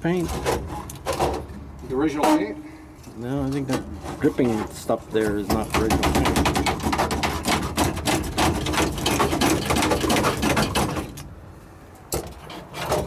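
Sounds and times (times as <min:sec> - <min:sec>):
screwdriver scraping sheet metal: 0:00.0 - 0:02.6, 0:03.4 - 0:11.3, 0:12.2 - 0:13.0.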